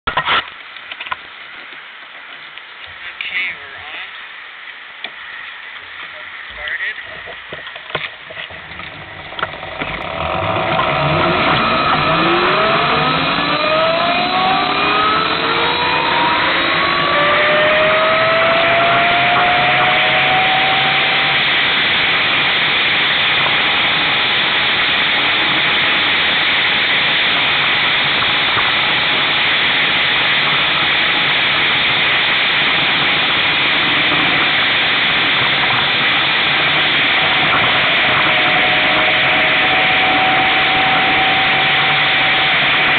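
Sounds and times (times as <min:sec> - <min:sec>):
wind rushing on microphone: 0:06.4 - 0:42.9
electric motorcycle motor whine: 0:07.5 - 0:42.9.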